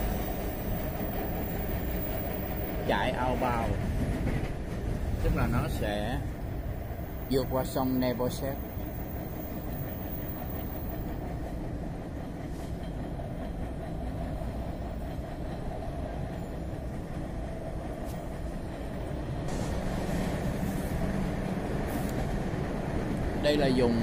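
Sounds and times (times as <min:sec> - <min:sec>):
train wheels on rail: 0:00.0 - 0:24.0.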